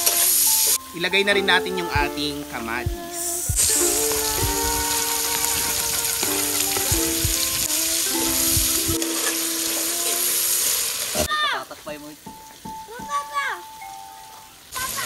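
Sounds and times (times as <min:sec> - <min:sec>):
food sizzling in hot oil: 0:00.0 - 0:01.2, 0:03.2 - 0:15.0.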